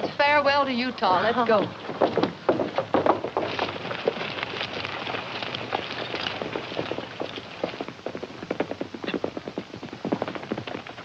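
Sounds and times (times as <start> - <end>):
hooves trampling on dirt: 0.0 - 11.0.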